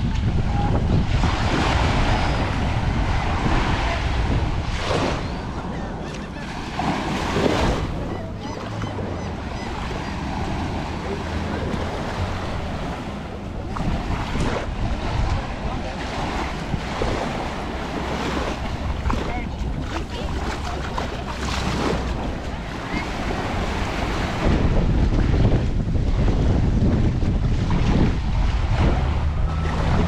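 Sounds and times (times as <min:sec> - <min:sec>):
waves washing onto beach: 0:00.0 - 0:30.0
wind rumbling on microphone: 0:00.0 - 0:30.0.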